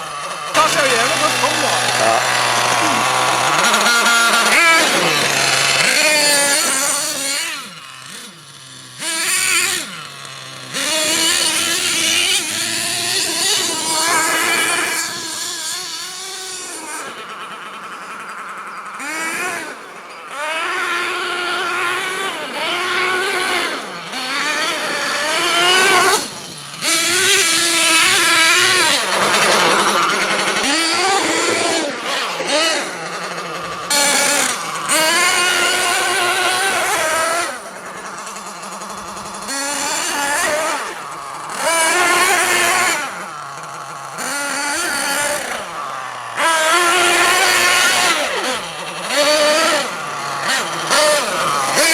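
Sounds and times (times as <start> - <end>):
toy truck motor revving: 0.0 - 51.9.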